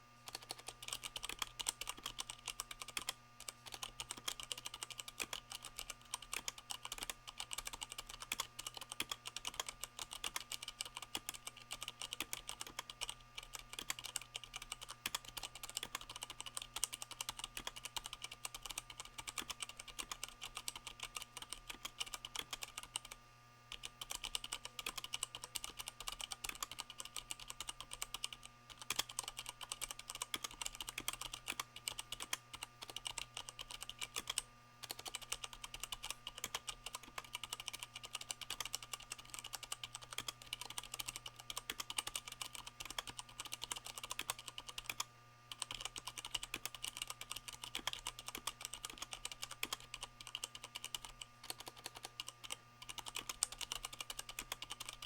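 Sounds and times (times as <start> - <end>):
mechanical keyboard typing: 0.3 - 55.0.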